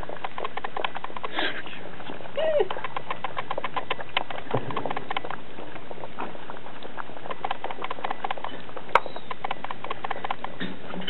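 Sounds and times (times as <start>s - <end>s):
small sharp clicks and crunches: 0.0s - 11.0s
wolf pups eating: 0.0s - 11.0s.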